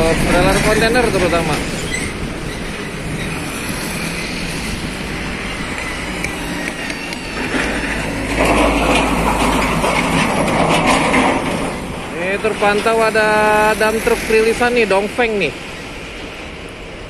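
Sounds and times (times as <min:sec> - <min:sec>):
trailer rattling: 0:00.0 - 0:16.4.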